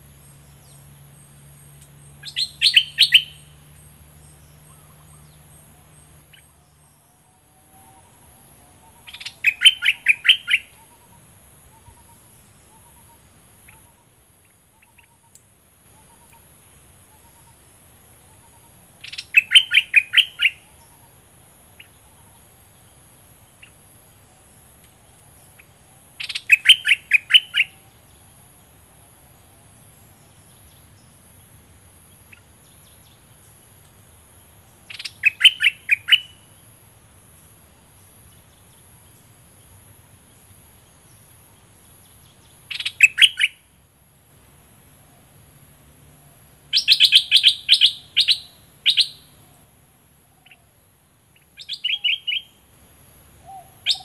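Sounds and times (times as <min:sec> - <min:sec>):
bird singing: 0:00.0 - 0:36.7, 0:37.7 - 0:43.8, 0:45.0 - 0:54.0
faint high hiss: 0:00.0 - 0:54.0.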